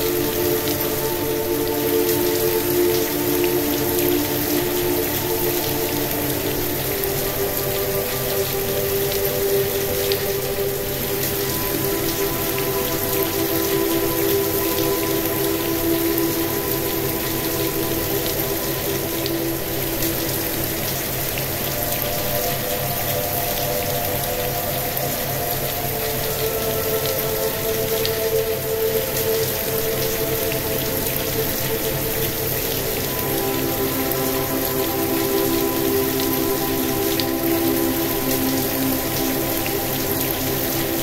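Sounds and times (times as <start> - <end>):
steady rain pattering: 0.0 - 41.0.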